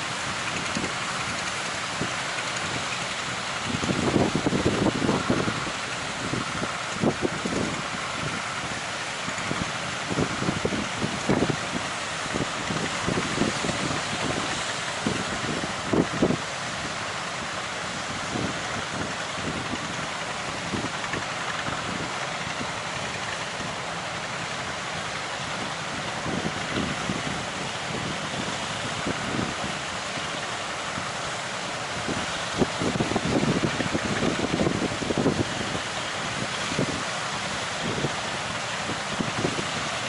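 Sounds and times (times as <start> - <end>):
ocean surf: 0.0 - 40.0
wind buffeting microphone: 0.0 - 40.0.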